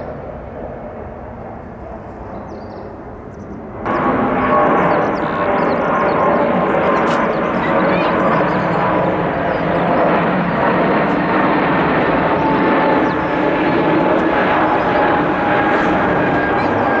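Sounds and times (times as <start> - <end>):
jet airliner engines running: 0.0 - 17.0.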